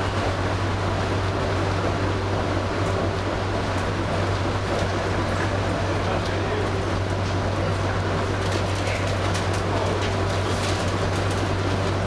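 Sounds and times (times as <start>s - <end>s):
people mover cabin running noise: 0.0s - 12.0s.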